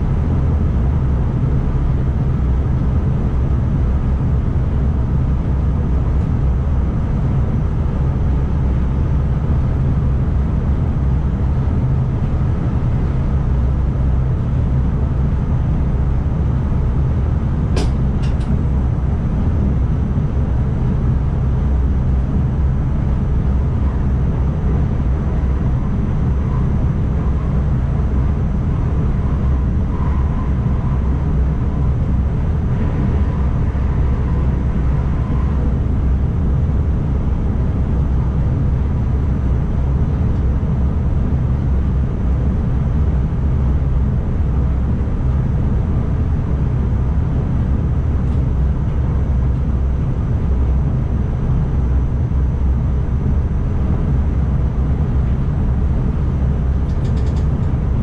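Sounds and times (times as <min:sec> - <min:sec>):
train running along the line: 0:00.0 - 0:58.0.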